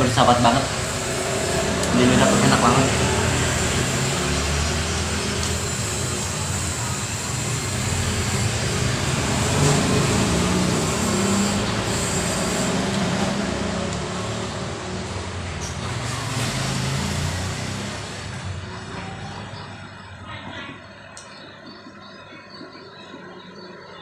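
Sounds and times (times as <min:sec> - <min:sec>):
road traffic engines humming: 0:00.0 - 0:24.0.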